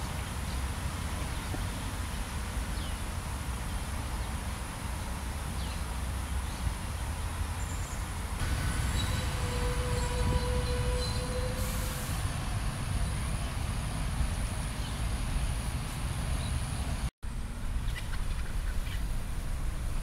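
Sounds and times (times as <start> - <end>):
road traffic rumble: 0.0 - 20.0
vehicle whine: 0.0 - 20.0.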